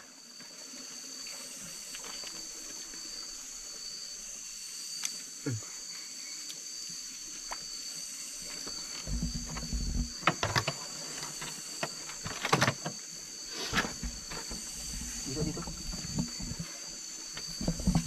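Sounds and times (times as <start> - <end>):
night insects chirring: 0.0 - 18.0.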